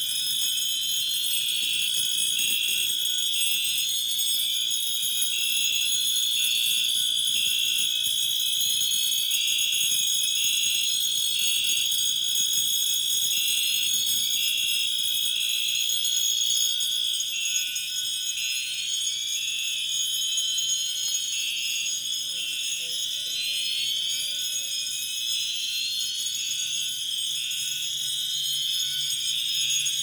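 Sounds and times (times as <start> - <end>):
steady high-pitched alarm tone: 0.0 - 30.0.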